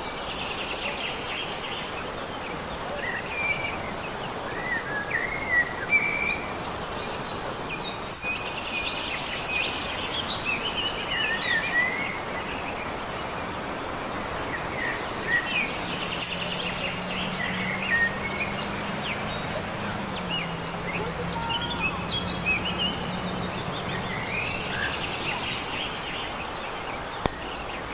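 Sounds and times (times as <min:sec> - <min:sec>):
small birds chirping: 0:00.0 - 0:27.9
stream rushing: 0:00.0 - 0:27.9.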